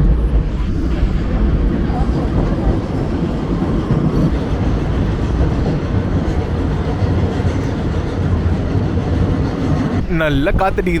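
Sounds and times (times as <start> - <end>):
train rumbling: 0.0 - 11.0
wind buffeting microphone: 0.0 - 11.0.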